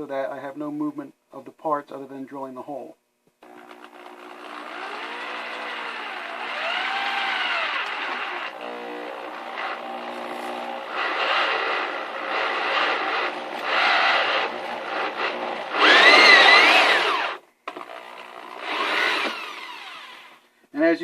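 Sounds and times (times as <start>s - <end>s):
drill with hole saw cutting metal: 3.4s - 20.4s.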